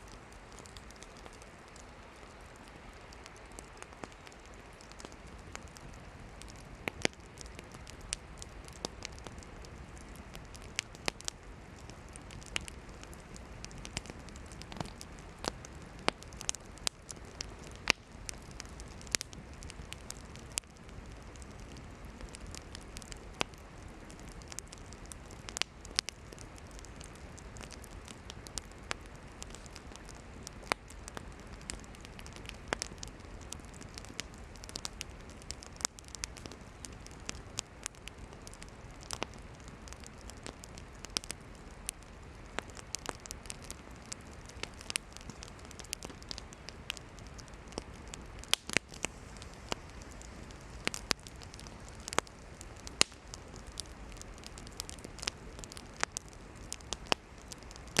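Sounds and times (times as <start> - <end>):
campfire low hiss: 0.0 - 58.0
firewood crackling and popping: 0.0 - 58.0.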